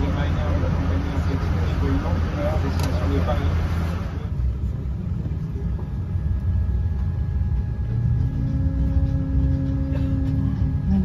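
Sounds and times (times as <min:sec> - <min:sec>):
low steady cabin rumble: 0:00.0 - 0:11.0
steady engine hum: 0:00.0 - 0:11.0.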